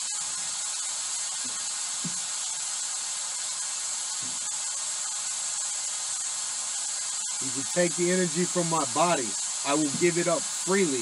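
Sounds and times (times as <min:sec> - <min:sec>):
white noise hiss: 0:00.0 - 0:11.0.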